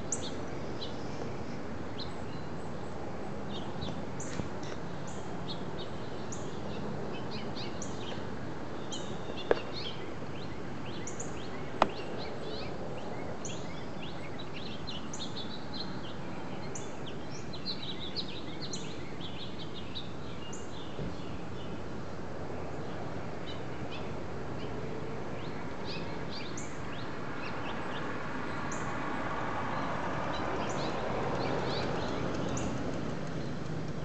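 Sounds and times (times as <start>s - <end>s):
small birds chirping: 0.0s - 21.8s, 22.8s - 34.0s
background noise: 0.0s - 34.0s.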